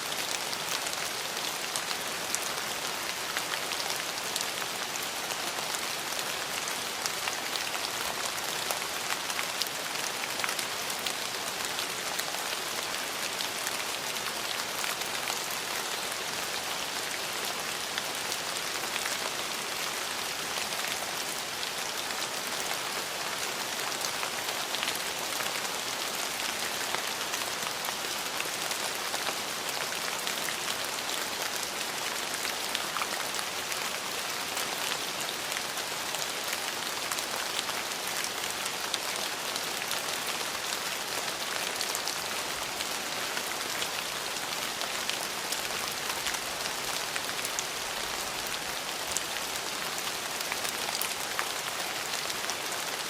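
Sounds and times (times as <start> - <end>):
rain on a hard surface: 0.0 - 53.0.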